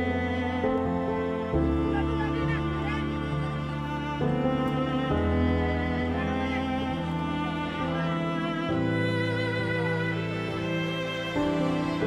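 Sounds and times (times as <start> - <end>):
bowed strings holding long notes: 0.0 - 12.0.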